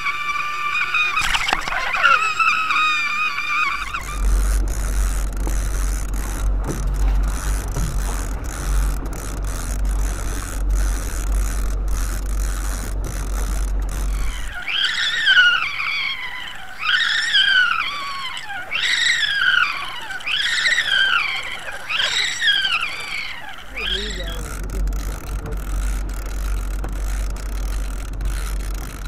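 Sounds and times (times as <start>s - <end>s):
boat engine rumble: 0.0s - 29.0s.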